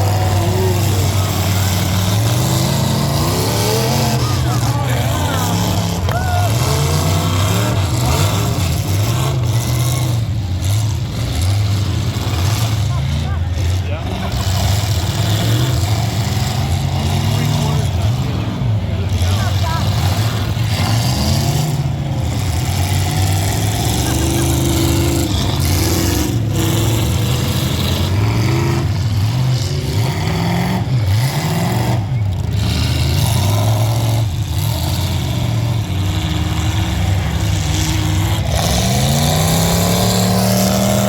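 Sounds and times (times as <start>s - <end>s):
truck engines revving: 0.0s - 41.0s.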